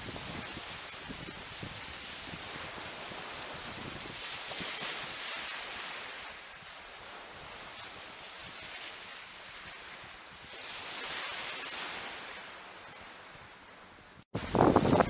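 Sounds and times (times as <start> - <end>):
wind buffeting microphone: 0.0 - 13.6, 14.3 - 15.0
small waves washing on shore: 0.0 - 15.0.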